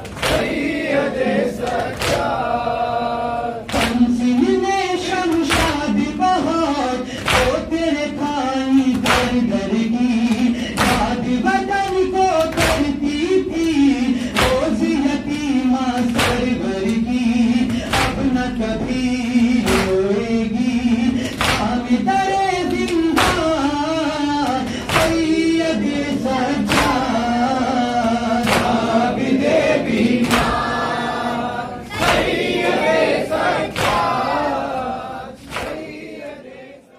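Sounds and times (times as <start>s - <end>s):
men singing a lament in unison: 0.0s - 36.9s.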